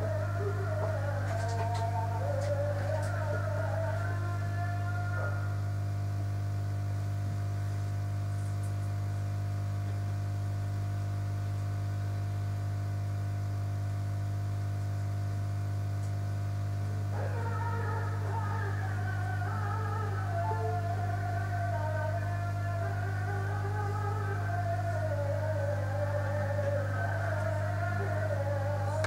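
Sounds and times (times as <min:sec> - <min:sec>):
mains hum: 0:00.0 - 0:29.0.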